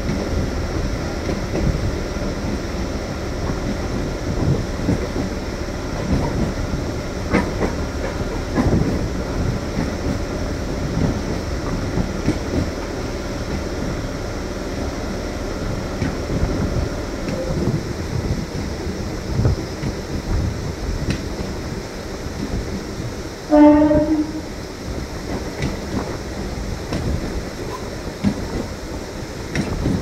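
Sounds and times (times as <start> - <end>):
train rumbling on track: 0.0 - 30.0.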